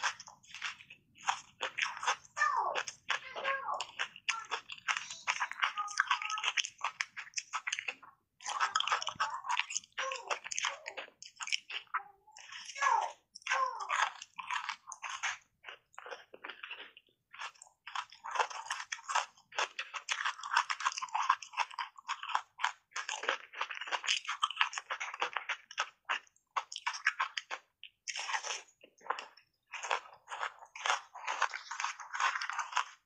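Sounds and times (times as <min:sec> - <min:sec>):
ice being bitten and chewed: 0:00.0 - 0:33.0.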